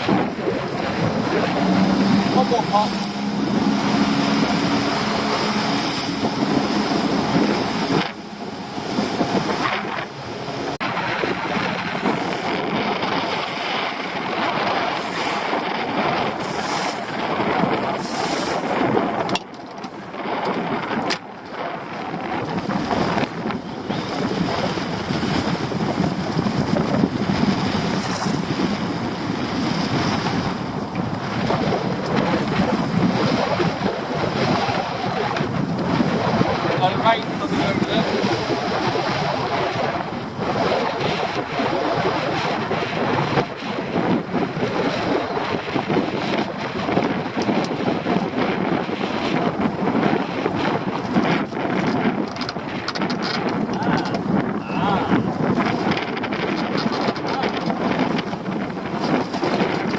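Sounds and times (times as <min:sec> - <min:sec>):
choppy water against boat: 0:00.0 - 0:59.9
wind buffeting microphone: 0:00.0 - 0:59.9.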